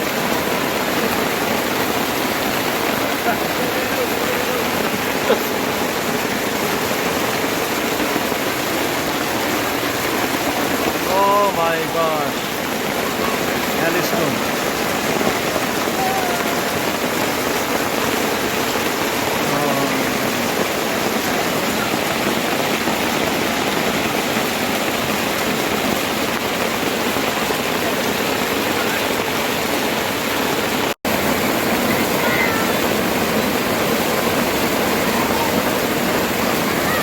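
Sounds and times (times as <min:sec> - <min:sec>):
heavy hail falling: 0:00.0 - 0:37.0.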